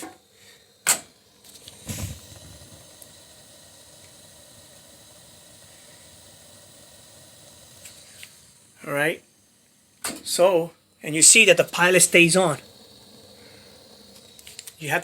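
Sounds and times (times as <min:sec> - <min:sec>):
gas pilot flame hissing: 0:00.0 - 0:15.0.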